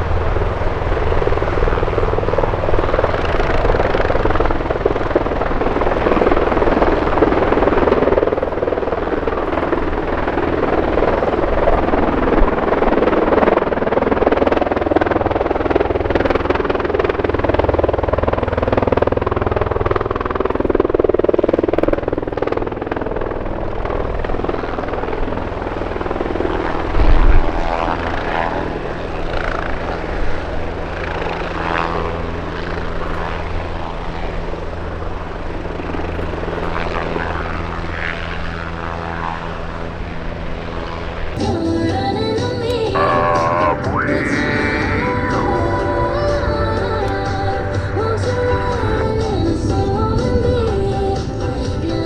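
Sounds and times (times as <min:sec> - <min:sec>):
propeller aircraft droning: 0:00.0 - 0:52.0.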